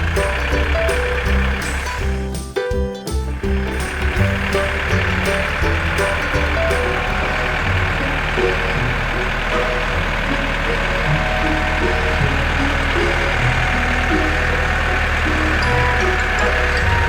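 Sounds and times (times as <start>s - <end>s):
cartoon truck engine: 0.0s - 17.0s
light background music: 0.0s - 17.0s.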